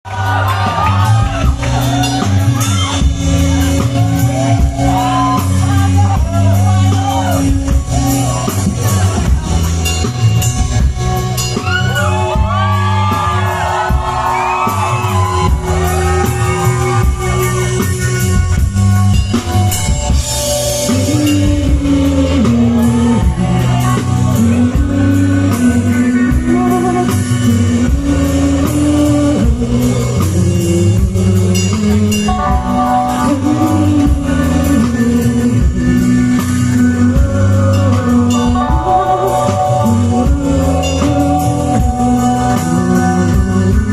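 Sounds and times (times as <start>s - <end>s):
bass guitar: 0.0s - 43.9s
drums: 0.0s - 43.9s
person singing: 0.1s - 18.6s, 19.4s - 43.9s
guitars: 0.1s - 43.9s.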